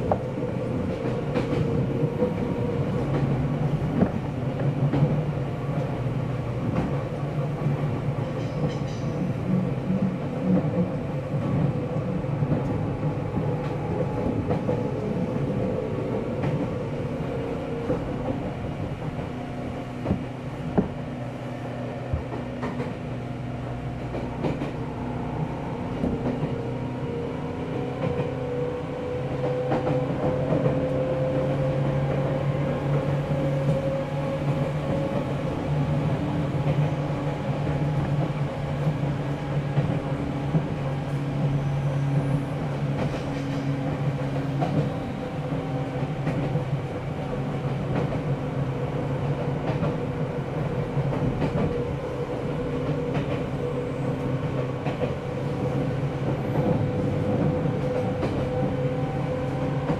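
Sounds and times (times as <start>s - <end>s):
rail joint clicks: 0.0s - 59.9s.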